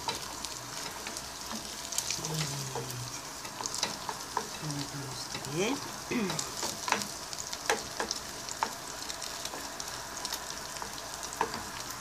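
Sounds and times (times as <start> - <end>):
meat and eggs sizzling in pan: 0.0 - 12.0
wooden spoon scraping a pan: 0.0 - 12.0.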